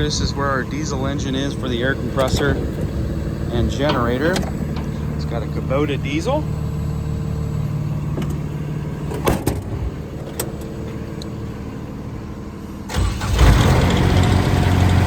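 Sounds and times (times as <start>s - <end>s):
diesel engine cranking and running: 0.0s - 15.0s
low engine hum: 0.0s - 15.0s.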